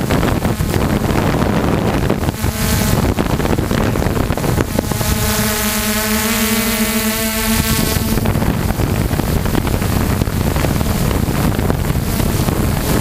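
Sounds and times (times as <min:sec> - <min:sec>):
electric motors and propellers humming: 0:00.0 - 0:13.0
wind buffeting microphone: 0:00.0 - 0:13.0.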